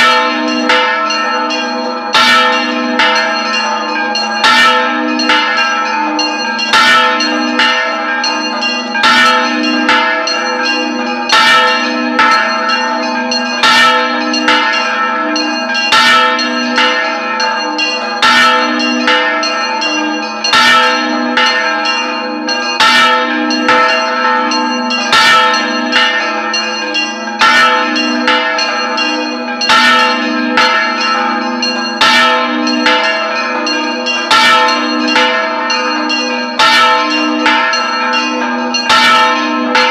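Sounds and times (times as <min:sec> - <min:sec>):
large church bell ringing: 0:00.0 - 0:39.9.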